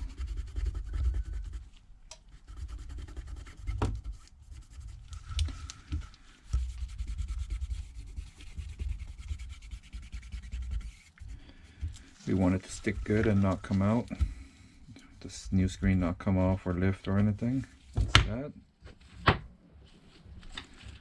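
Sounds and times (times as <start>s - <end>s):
rubbing and scraping: 0.0s - 18.2s.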